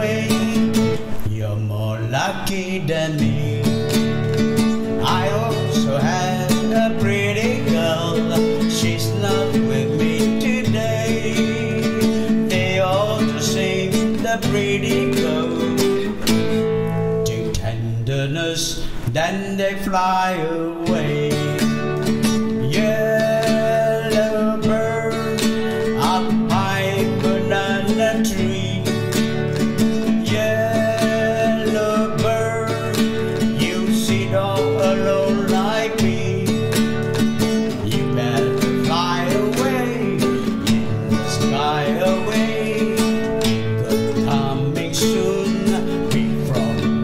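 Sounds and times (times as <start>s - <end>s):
acoustic guitar strumming chords: 0.0s - 47.0s.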